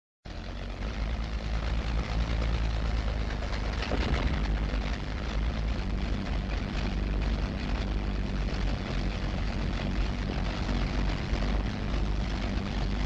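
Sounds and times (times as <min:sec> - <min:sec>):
propeller aircraft engines droning: 0:00.3 - 0:13.0.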